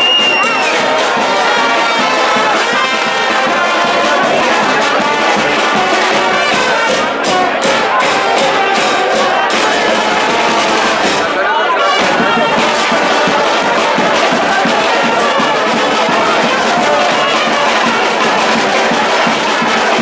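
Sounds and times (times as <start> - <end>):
brass band playing: 0.0 - 20.0
percussion: 0.0 - 20.0.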